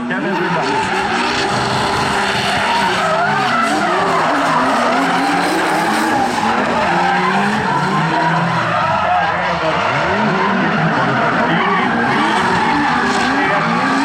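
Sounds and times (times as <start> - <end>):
car engines revving: 0.0 - 14.0
tyres screeching: 0.0 - 14.0.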